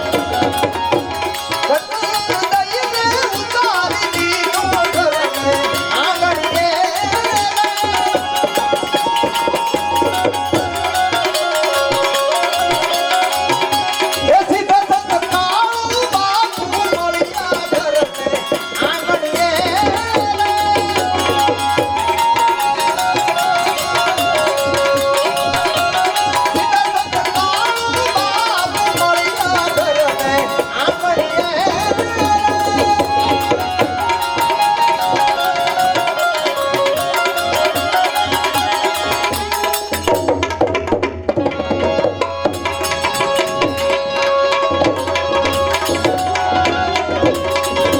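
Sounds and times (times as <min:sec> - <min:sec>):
tabla drumming: 0:00.0 - 0:47.9
wavering melody instrument: 0:00.0 - 0:47.9.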